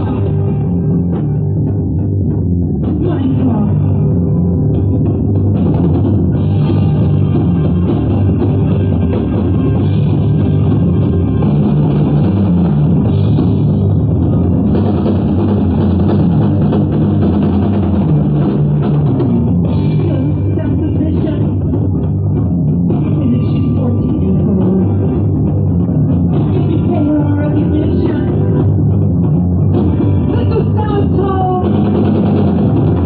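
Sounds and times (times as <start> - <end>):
drum kit: 0.0 - 33.0
electric guitar: 0.0 - 33.0.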